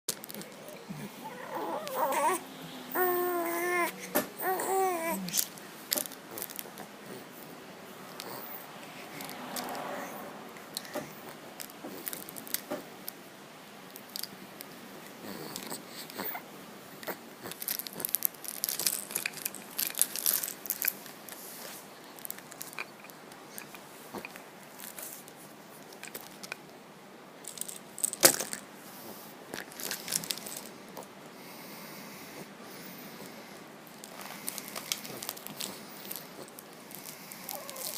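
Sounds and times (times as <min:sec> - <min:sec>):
chewing and gnawing on a toy: 0:00.1 - 0:13.2, 0:13.8 - 0:26.7, 0:27.4 - 0:31.2, 0:33.2 - 0:37.9.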